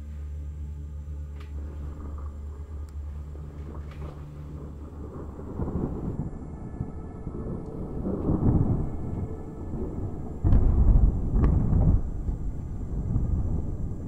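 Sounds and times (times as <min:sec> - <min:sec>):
low steady drone: 0:00.0 - 0:14.0
rolling thunder: 0:01.5 - 0:14.0.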